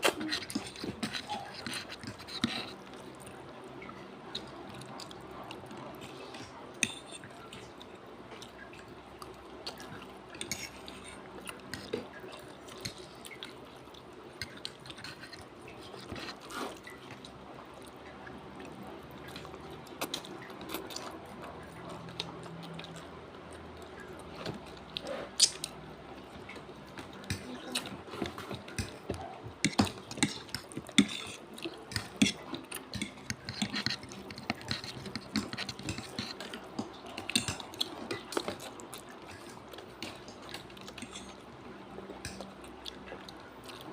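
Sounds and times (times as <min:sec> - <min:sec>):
wet mouth eating sounds: 0:00.0 - 0:43.9.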